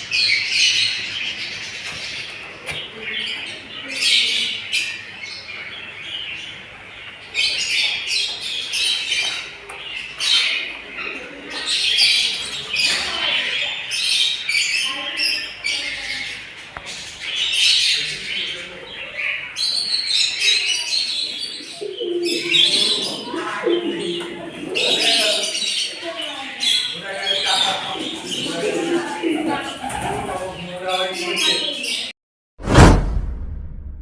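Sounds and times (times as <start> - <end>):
birds chirping and squawking: 0.0 - 32.1.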